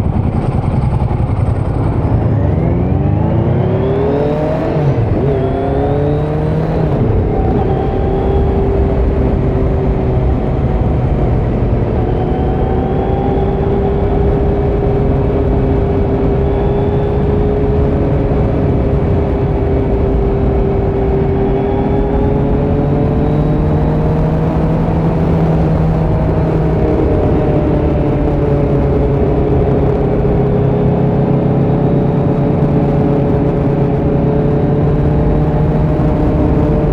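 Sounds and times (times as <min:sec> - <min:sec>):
motorcycle engine revving: 0:00.0 - 0:36.9
wind and road noise: 0:00.0 - 0:36.9.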